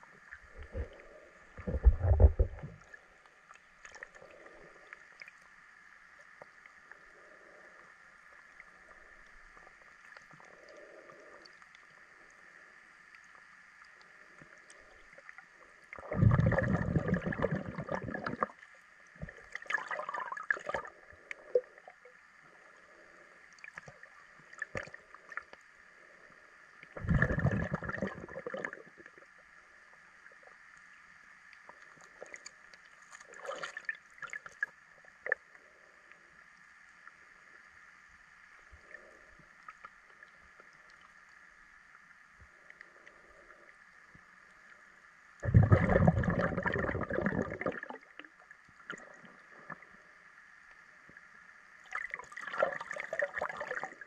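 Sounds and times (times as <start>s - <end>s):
faint underwater hum: 0.0s - 54.0s.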